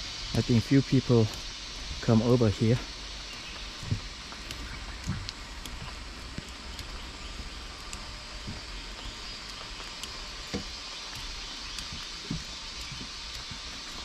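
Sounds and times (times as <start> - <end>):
outdoor hiss: 0.0 - 14.0
soft low thumps: 0.0 - 14.0
faint high ticks: 0.2 - 14.0.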